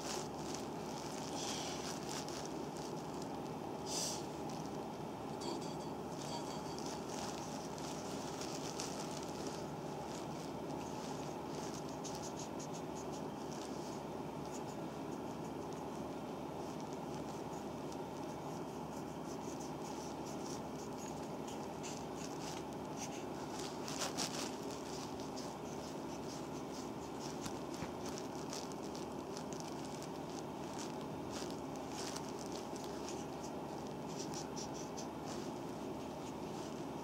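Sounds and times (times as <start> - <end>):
rubbing strokes on skin: 0.0 - 4.8, 6.2 - 37.0
steady background hiss: 0.0 - 37.0.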